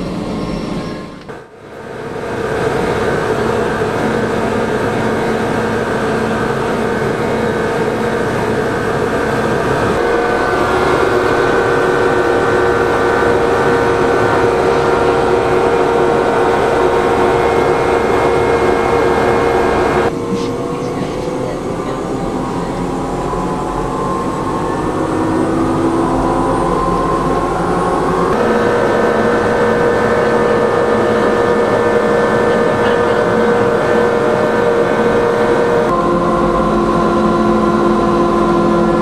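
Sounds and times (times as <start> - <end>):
train motors whining: 0.0 - 39.0
wheels rumbling on track: 0.0 - 39.0.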